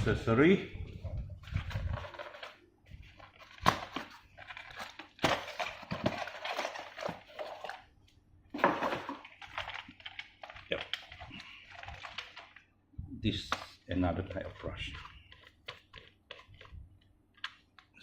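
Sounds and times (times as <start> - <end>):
wrapping rustling and crinkling: 1.0 - 7.9, 8.6 - 18.0.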